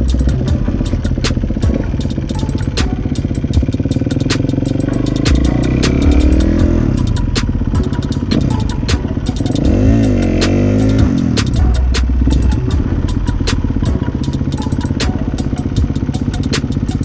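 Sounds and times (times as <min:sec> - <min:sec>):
dirt bike engine revving: 0:00.0 - 0:17.0
rapid clicking clatter: 0:00.0 - 0:17.0.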